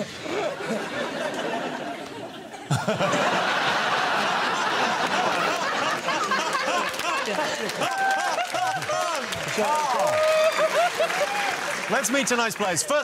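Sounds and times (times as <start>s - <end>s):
studio audience laughing: 0.3s - 12.0s.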